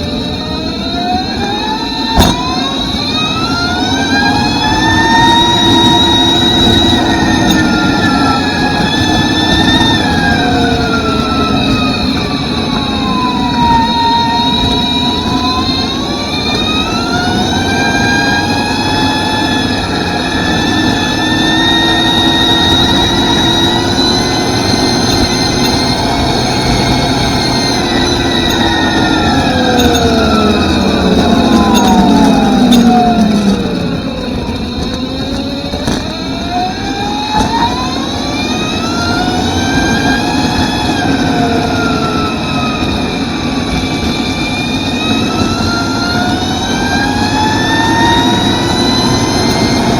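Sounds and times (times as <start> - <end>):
electric motor whining: 0.0 - 49.9
tyre noise: 1.2 - 49.9.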